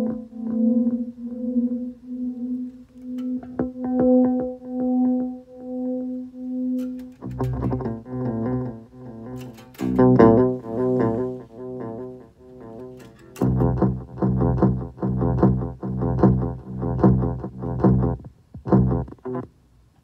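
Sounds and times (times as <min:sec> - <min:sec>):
musical notes with delay echoes: 0:00.0 - 0:19.4.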